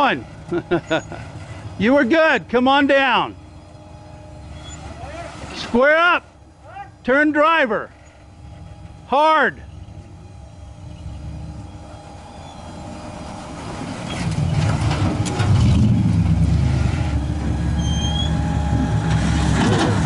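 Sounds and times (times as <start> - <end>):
utility vehicle engine running: 0.0 - 20.0.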